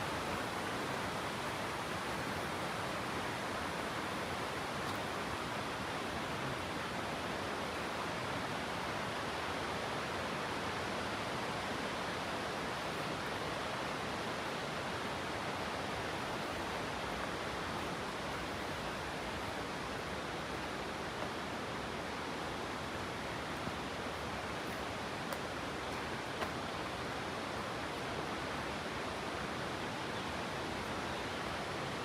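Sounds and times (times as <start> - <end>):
water rushing: 0.0 - 32.0.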